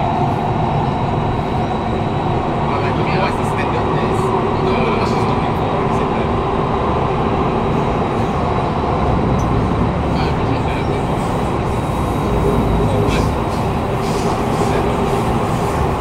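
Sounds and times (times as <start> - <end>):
train wheels on rail: 0.0 - 16.0.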